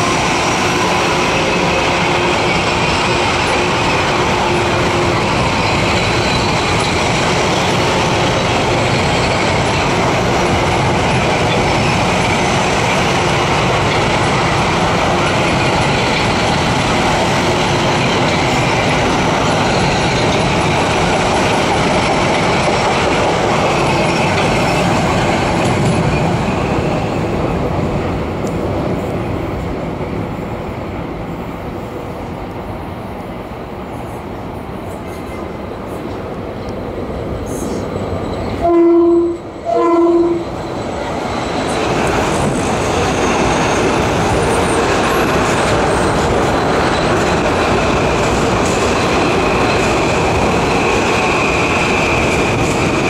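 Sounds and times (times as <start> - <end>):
train wheel and rail noise: 0.0 - 53.0.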